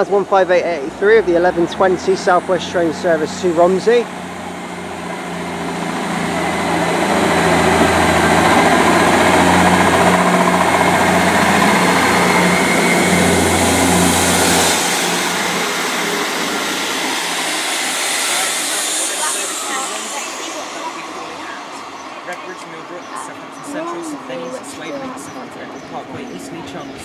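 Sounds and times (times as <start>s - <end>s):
diesel train engine droning: 0.0s - 27.0s.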